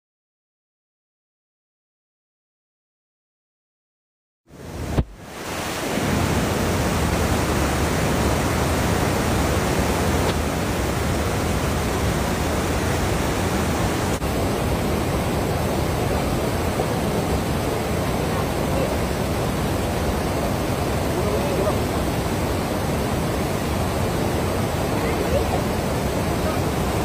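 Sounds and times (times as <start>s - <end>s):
floodwater rushing over bridge: 4.6s - 27.0s.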